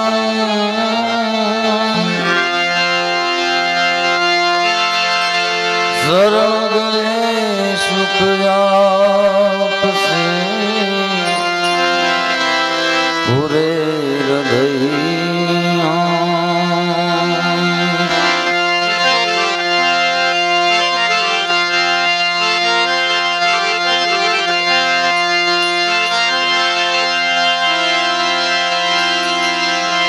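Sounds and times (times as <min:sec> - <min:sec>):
harmonium melody over drone: 0:00.0 - 0:30.0.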